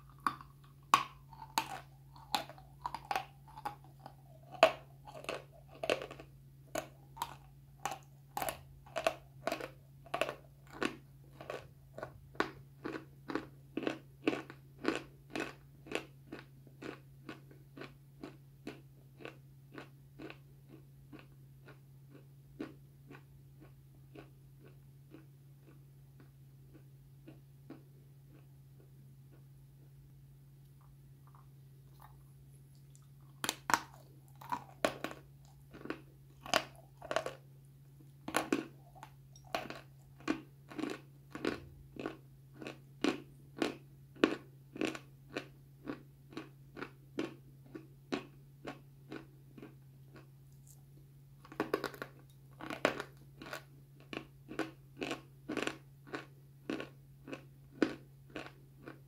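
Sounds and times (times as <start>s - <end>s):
chewing crunchy food: 0.0s - 29.5s, 30.6s - 59.0s.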